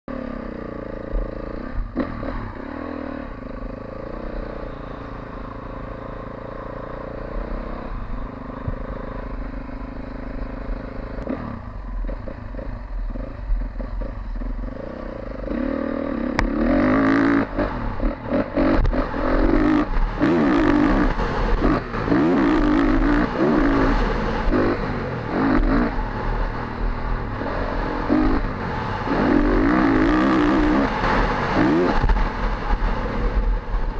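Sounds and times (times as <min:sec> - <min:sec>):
dirt bike engine revving: 0:00.1 - 0:33.9.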